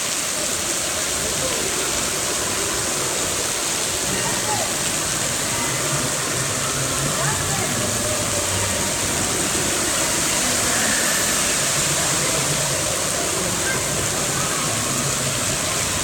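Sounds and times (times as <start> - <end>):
water rushing down slide: 0.0 - 16.0.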